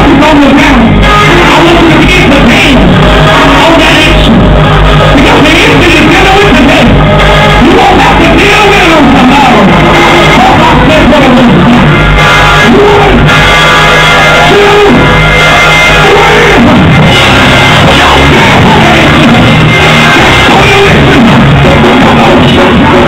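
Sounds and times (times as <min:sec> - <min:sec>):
live band with guitar and bass: 0:00.0 - 0:23.0
voices singing and shouting: 0:00.0 - 0:23.0.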